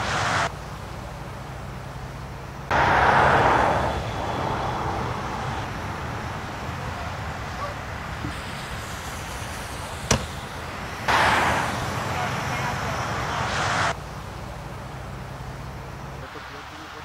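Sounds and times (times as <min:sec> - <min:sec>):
road traffic rushing: 0:00.0 - 0:17.0.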